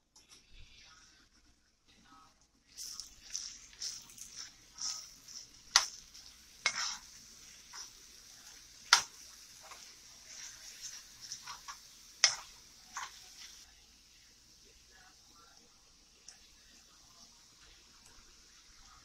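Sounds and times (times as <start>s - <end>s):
vegetables sizzling in a pot: 2.7s - 19.0s.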